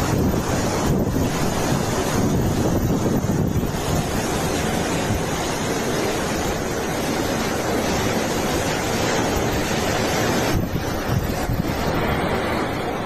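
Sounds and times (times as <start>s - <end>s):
driving rain: 0.0s - 13.0s
strong wind rushing: 0.0s - 13.0s
wind buffeting microphone: 0.0s - 13.0s.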